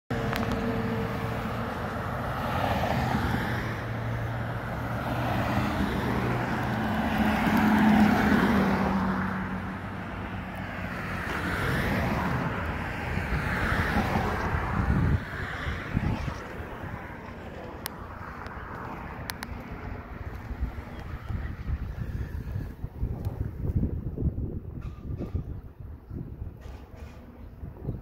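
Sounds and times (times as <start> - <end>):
passing traffic drone: 0.1 - 28.0.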